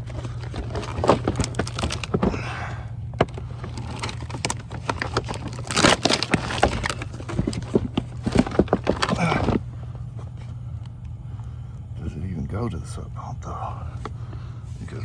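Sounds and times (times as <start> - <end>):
low hum of unit blowing air: 0.0 - 15.0.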